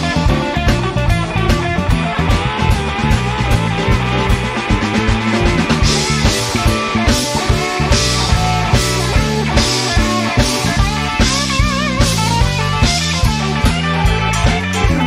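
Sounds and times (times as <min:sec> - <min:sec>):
bass guitar: 0:00.0 - 0:15.0
drums: 0:00.0 - 0:15.0
electric guitar solo: 0:00.0 - 0:15.0.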